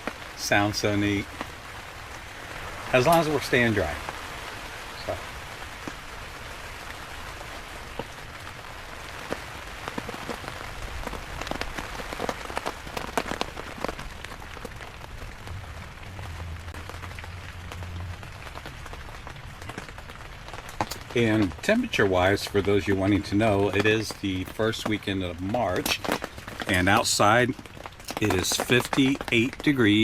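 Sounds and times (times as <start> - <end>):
rain on tent fabric: 0.0 - 30.0.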